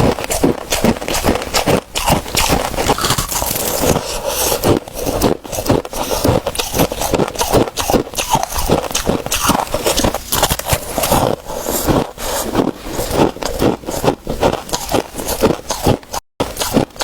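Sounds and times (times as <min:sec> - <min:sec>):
crushed ice being chewed: 0:00.0 - 0:17.0.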